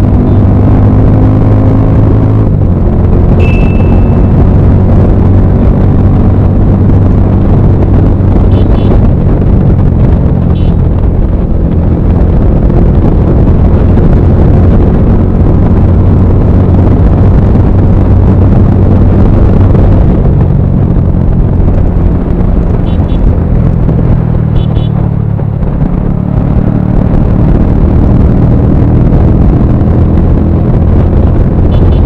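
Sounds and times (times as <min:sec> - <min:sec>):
motorcycle engine droning: 0:00.0 - 0:32.0
wind buffeting microphone: 0:00.0 - 0:32.0.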